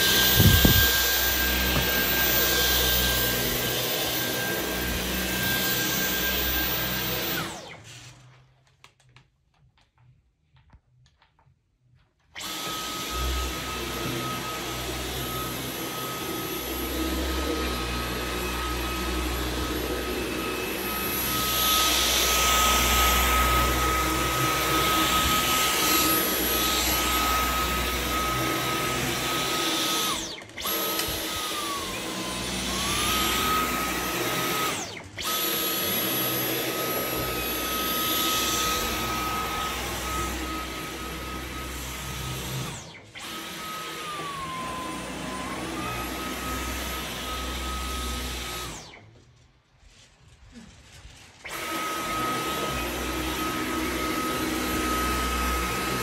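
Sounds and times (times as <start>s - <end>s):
vacuum cleaner running on carpet: 0.0s - 8.2s, 12.4s - 49.0s, 50.5s - 56.0s.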